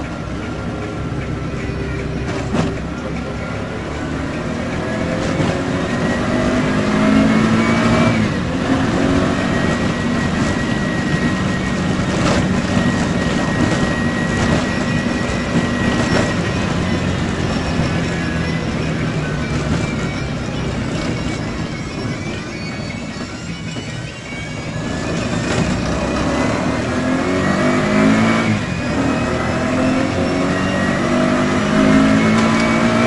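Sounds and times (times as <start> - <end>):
motorcycle engine accelerating: 0.0 - 33.0
road noise: 0.0 - 33.0.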